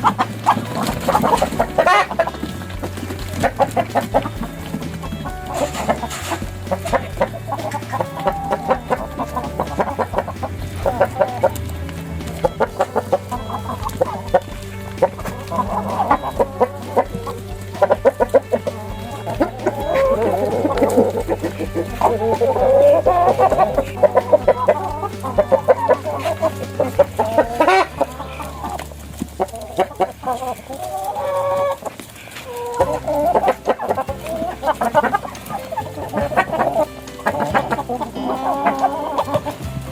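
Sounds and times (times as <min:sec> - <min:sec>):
background music: 0:00.0 - 0:39.9
chickens clucking: 0:00.0 - 0:39.9.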